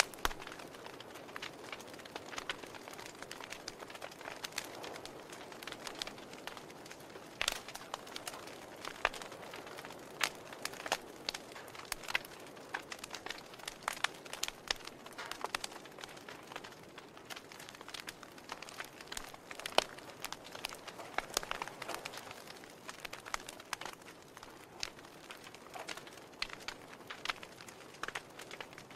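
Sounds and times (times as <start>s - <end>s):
hiss of burning logs: 0.0s - 28.9s
wood fire crackling: 0.0s - 28.9s.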